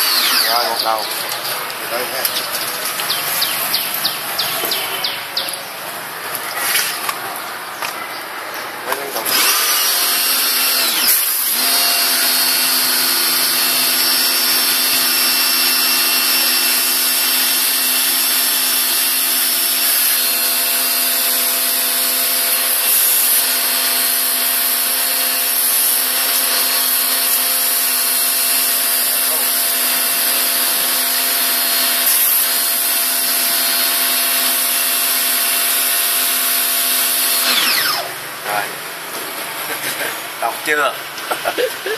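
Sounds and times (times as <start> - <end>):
pressure washer motor whine: 0.0 - 7.2, 8.9 - 39.2.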